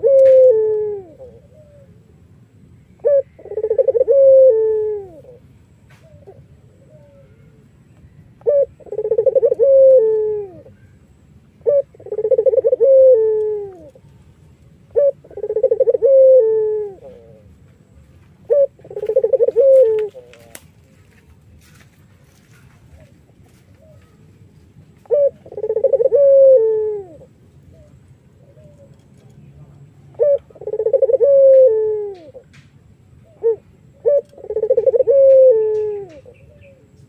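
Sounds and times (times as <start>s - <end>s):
dove cooing: 0.0s - 2.2s, 3.0s - 7.7s, 8.4s - 11.0s, 11.6s - 14.2s, 14.8s - 17.6s, 18.4s - 20.7s, 22.3s - 24.4s, 25.0s - 32.5s, 33.2s - 37.0s.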